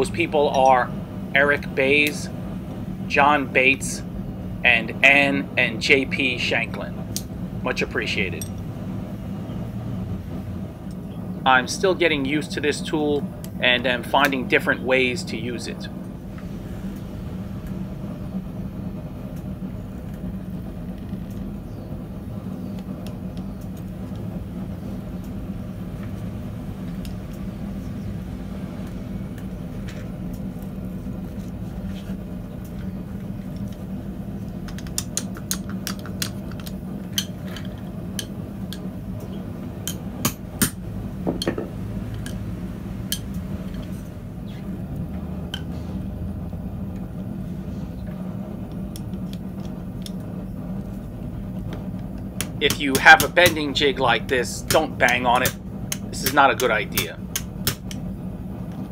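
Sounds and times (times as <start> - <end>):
steady low drone: 0.0 - 58.9.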